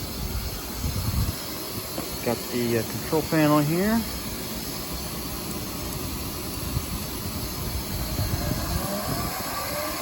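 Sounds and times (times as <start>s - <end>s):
machinery hum with hiss: 0.0s - 10.0s.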